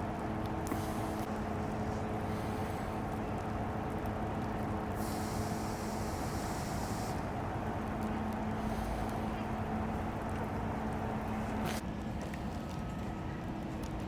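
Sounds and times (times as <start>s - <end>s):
vehicle engine rumbling: 0.0s - 13.2s.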